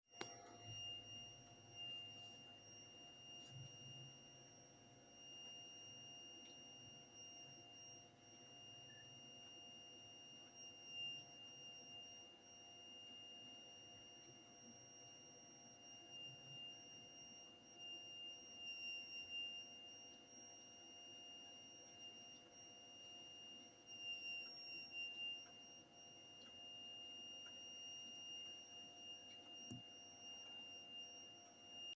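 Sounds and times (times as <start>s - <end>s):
high-pitched electronic whine: 0.1s - 31.9s.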